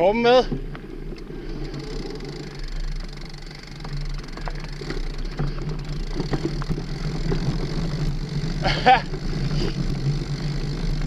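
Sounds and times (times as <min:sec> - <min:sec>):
bike clicking and rattling: 0:00.0 - 0:11.0
tyres rumbling on dirt: 0:00.0 - 0:11.0.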